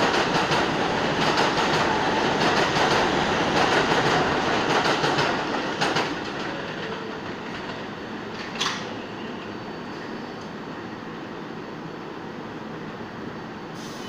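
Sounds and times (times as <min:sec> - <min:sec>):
subway train wheels clattering: 0:00.0 - 0:14.0.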